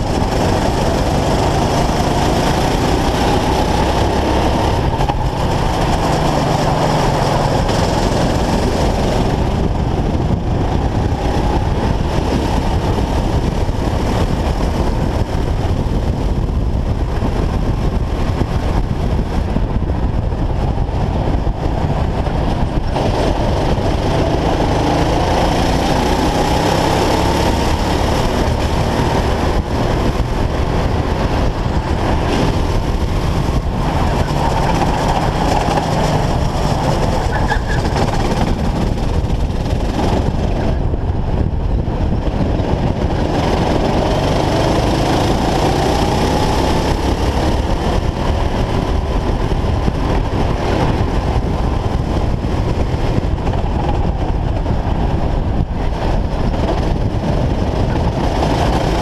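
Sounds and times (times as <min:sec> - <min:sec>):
go-kart engine racing: 0:00.0 - 0:59.0.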